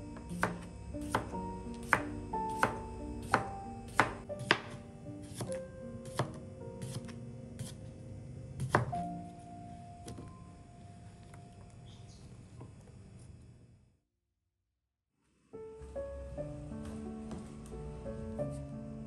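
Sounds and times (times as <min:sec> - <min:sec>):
soft background music: 0:00.0 - 0:12.0, 0:15.5 - 0:19.0.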